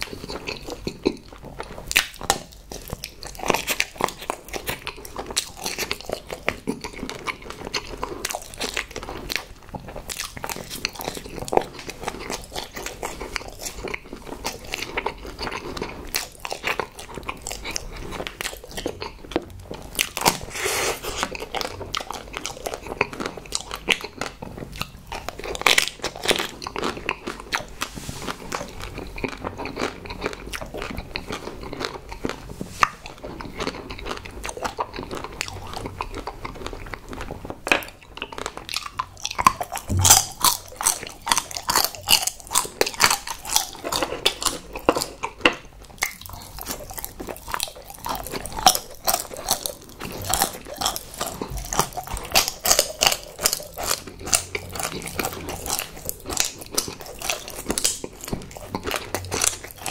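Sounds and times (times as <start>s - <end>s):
person chewing with mouth clicks: 0.0s - 59.9s.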